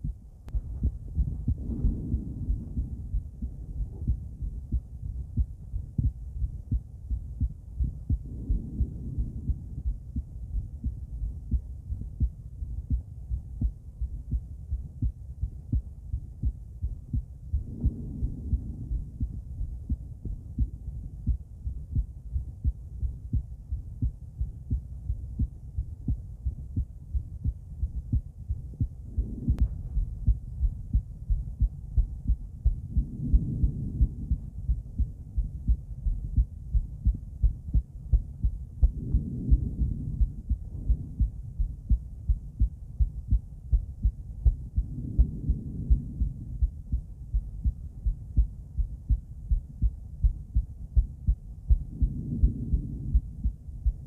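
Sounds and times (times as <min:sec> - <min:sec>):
heartbeat through stethoscope: 0:00.0 - 0:54.0.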